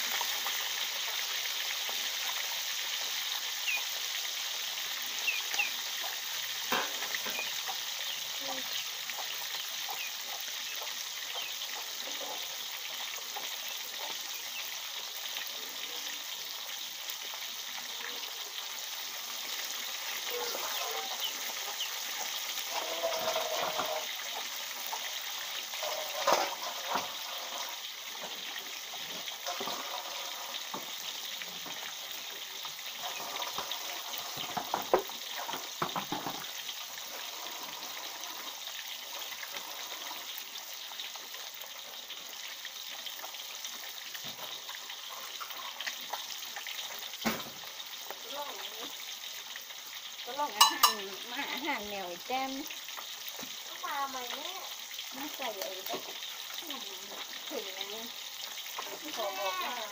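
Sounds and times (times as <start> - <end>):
fish deep-frying in oil: 0.0 - 59.9.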